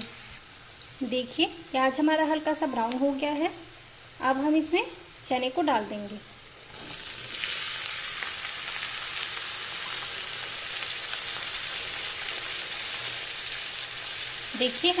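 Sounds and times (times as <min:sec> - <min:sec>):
chickpeas sizzling in hot oil: 0:00.0 - 0:15.0.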